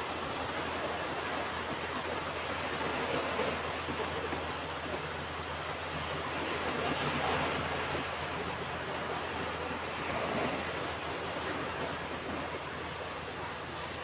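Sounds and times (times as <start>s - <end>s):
ocean surf washing on beach: 0.0s - 14.0s.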